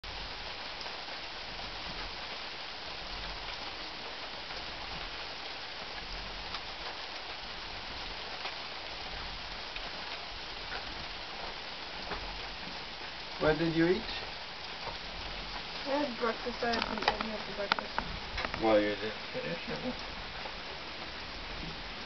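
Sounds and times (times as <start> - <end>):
rain hiss: 0.0 - 22.0
raindrops ticking: 0.0 - 22.0.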